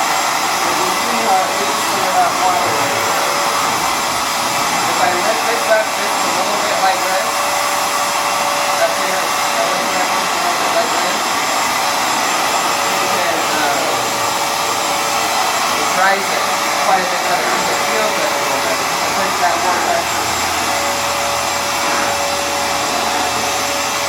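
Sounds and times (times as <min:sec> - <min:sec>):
floor cleaner motor humming: 0:00.0 - 0:24.0.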